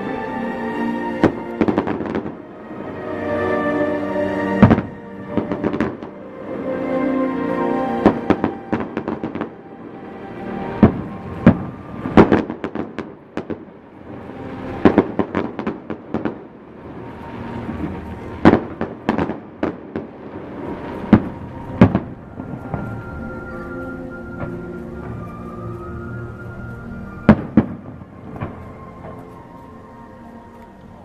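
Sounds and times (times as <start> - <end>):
music playing: 0.0 - 31.0
fireworks bangs and crackling: 1.1 - 6.7, 7.6 - 31.0.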